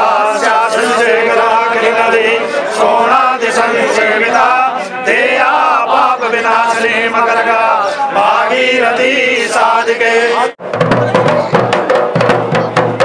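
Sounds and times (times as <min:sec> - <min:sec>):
men chanting together: 0:00.0 - 0:10.6.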